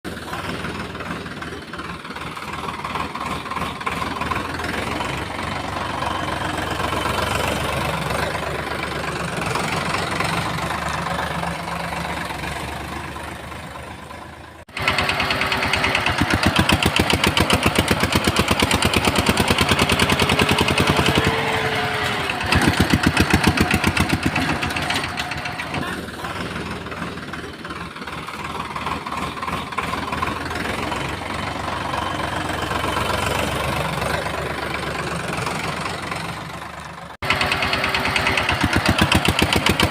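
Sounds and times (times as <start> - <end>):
engine chugging: 0.1 - 39.9
engine running: 0.1 - 39.9.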